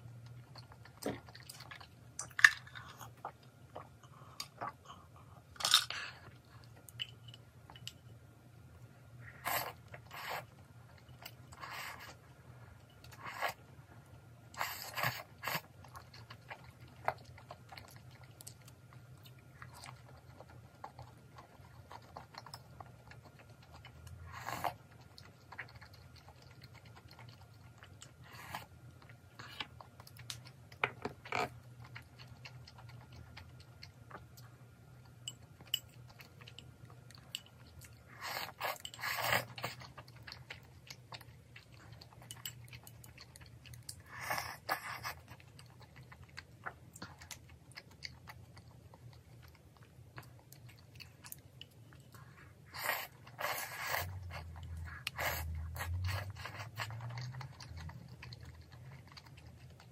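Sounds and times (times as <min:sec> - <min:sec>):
chewing: 0:00.1 - 0:08.0, 0:08.8 - 0:59.9.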